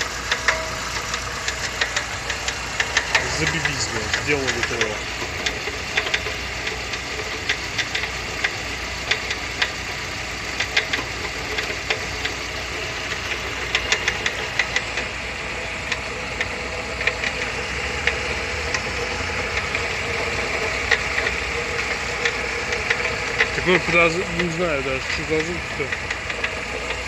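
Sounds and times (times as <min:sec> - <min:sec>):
car engine idling: 0:00.0 - 0:27.0
knocks and clicks under hood: 0:00.0 - 0:27.0.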